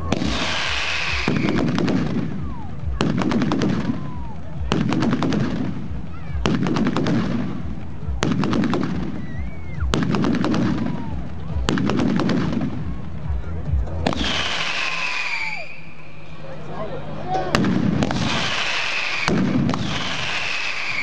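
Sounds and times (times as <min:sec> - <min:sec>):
firecracker bangs: 0:00.0 - 0:13.0, 0:14.0 - 0:16.0, 0:17.5 - 0:21.0.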